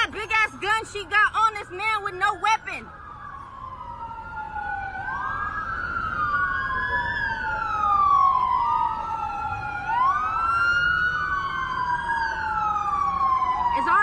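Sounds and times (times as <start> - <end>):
police sirens wailing: 0.0 - 14.0.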